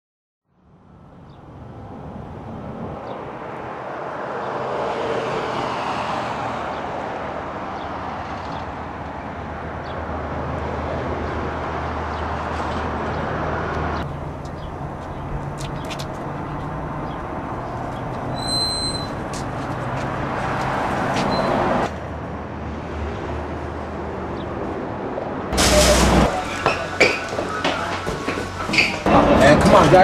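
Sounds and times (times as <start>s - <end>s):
passing cars: 0.6s - 30.0s.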